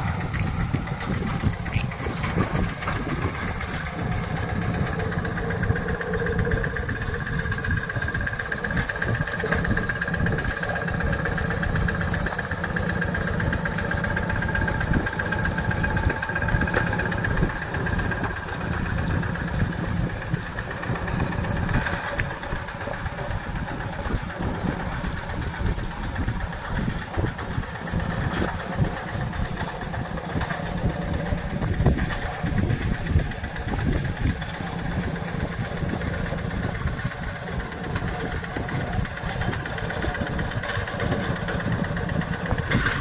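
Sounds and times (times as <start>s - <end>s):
steady whine: 0.0s - 43.0s
tractor diesel engine knocking: 0.0s - 43.0s.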